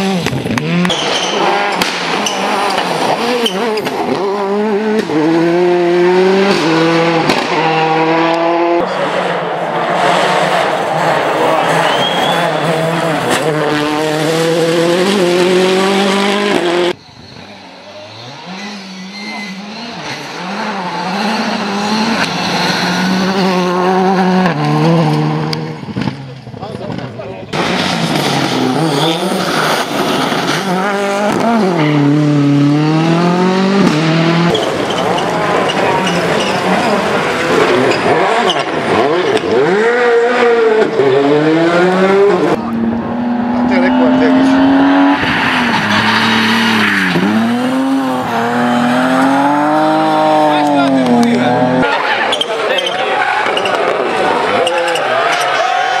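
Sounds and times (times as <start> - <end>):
distant rally car engine: 0.0 - 56.0
rally car engine accelerating: 0.0 - 56.0.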